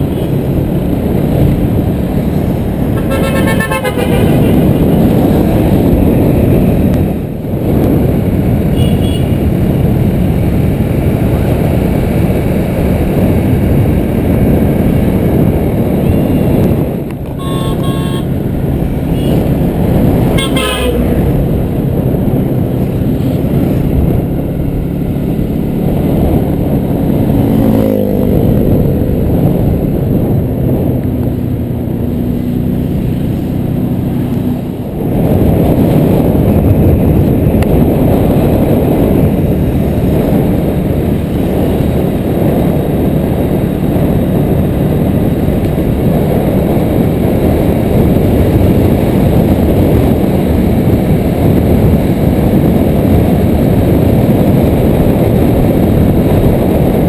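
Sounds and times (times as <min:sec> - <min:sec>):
vehicle engine humming: 0:00.0 - 0:57.0
wind on microphone: 0:00.0 - 0:57.0.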